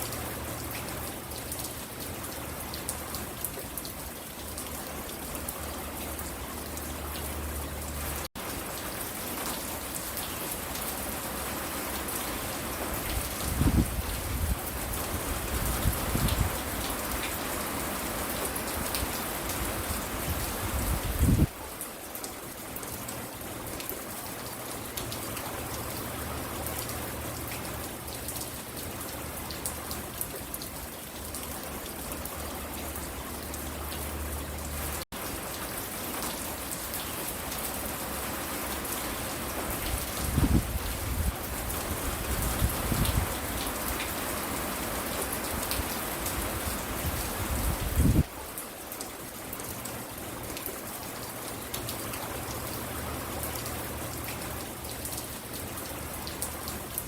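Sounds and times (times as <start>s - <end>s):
rain pattering on porch: 0.0s - 57.0s.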